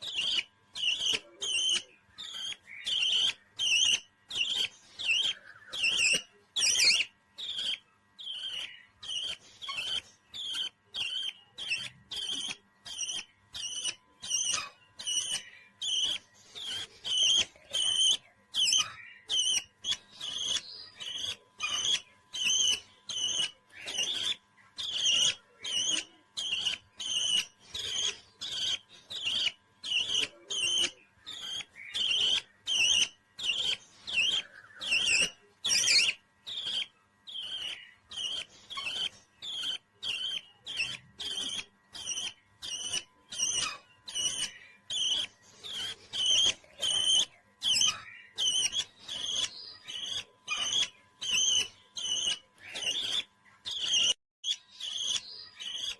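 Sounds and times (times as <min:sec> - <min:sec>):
parrot chirping calls: 0:00.0 - 0:55.9.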